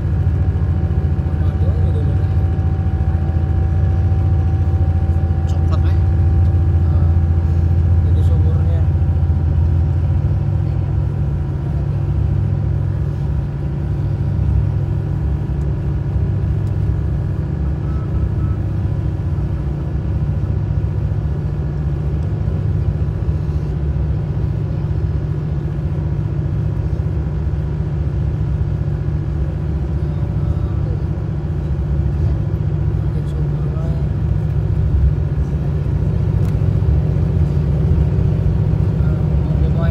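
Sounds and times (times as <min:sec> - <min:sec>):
vehicle rumble from inside: 0:00.0 - 0:39.9.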